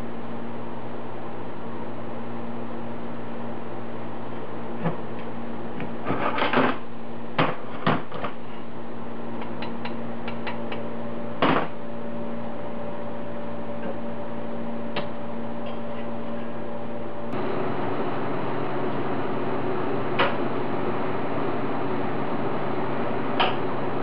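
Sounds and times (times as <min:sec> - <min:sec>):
steady hum and hiss: 0:00.0 - 0:24.0.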